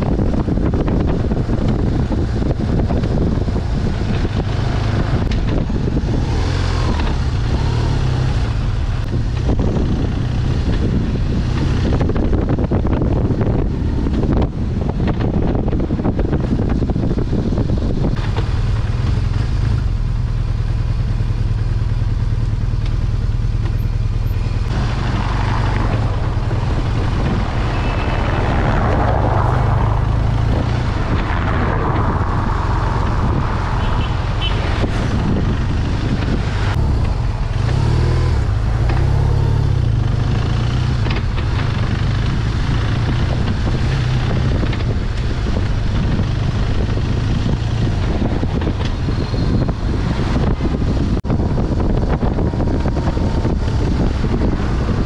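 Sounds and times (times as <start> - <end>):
motorcycle engine running: 0.0 - 55.0
traffic passing: 0.0 - 55.0
wind rumble on microphone: 0.0 - 55.0.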